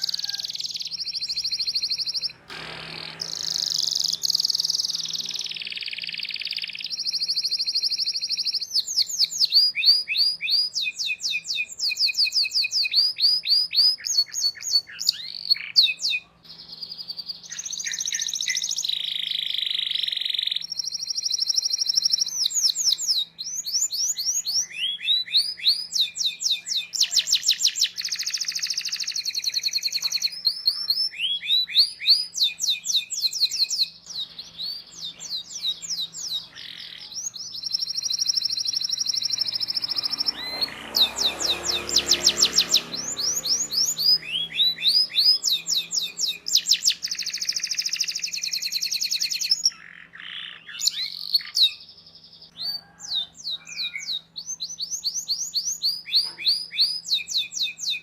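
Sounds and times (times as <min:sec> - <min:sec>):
canary singing chirps and trills: 0:00.0 - 0:58.0.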